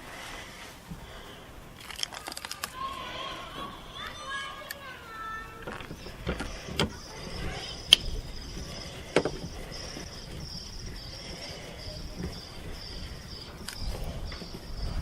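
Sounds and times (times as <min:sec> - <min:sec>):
insects chirping: 0:01.0 - 0:15.0.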